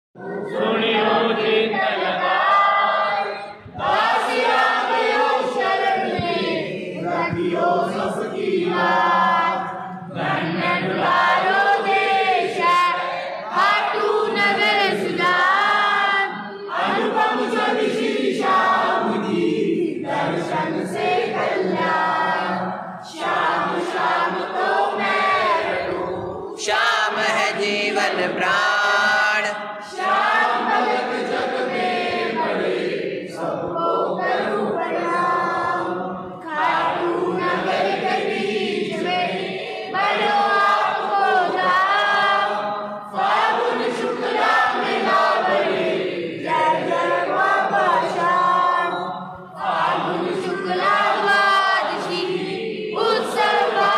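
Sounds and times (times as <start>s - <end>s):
group singing devotional song: 0.2s - 53.9s.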